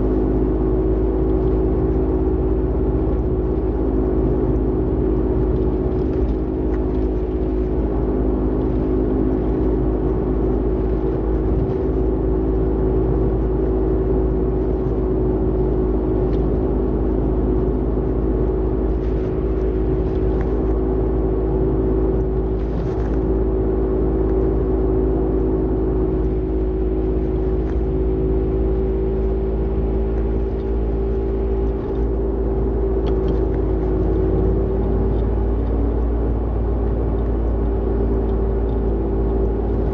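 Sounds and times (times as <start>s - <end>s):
road rumble: 0.0s - 39.9s
wheel bearing droning hum: 0.0s - 39.9s.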